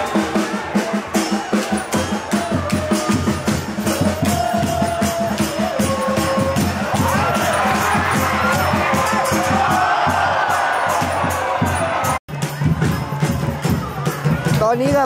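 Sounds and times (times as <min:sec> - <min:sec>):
drums beating steady rhythm: 0:00.0 - 0:15.0.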